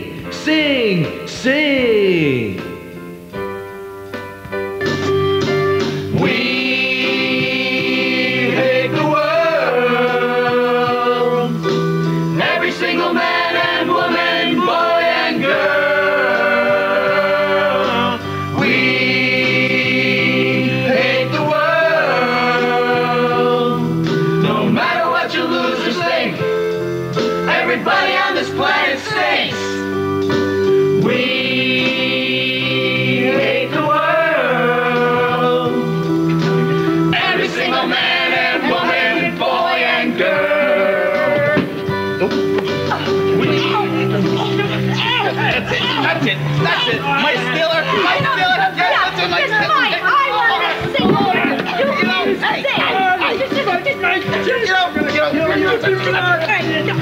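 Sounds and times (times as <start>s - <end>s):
backing music: 0.0s - 57.0s
mixed choir singing: 6.1s - 26.6s, 27.2s - 29.9s, 31.0s - 36.0s, 36.9s - 42.4s, 43.0s - 56.3s.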